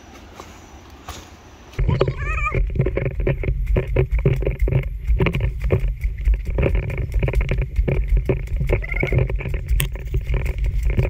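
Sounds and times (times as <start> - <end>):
footsteps knocking: 1.8 - 11.0
microphone handling rumble: 1.8 - 11.0.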